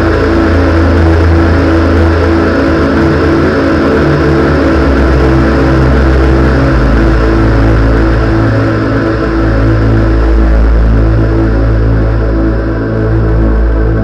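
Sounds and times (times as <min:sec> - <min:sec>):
synthesizer drone with deep bass: 0:00.0 - 0:14.0.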